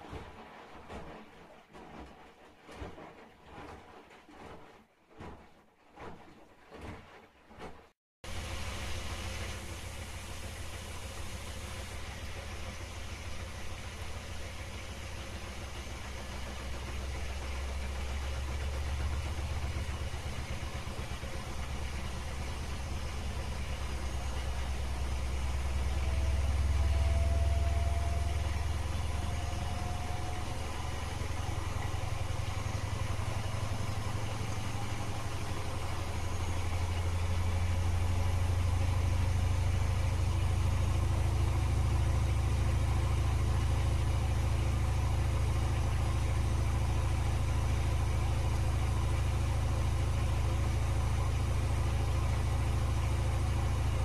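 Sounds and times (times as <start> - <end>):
washing machine spinning hum: 0.0 - 54.0
faint rising whine: 8.3 - 54.0.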